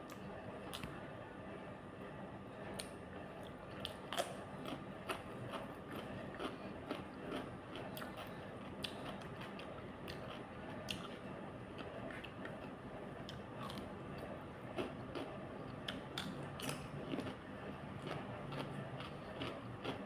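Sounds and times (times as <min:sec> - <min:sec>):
person chewing food: 0:02.8 - 0:20.0.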